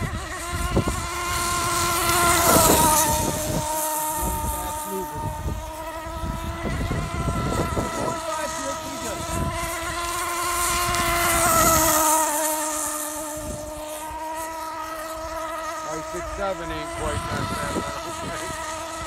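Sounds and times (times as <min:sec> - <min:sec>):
model boat engine whining: 0:00.0 - 0:19.0.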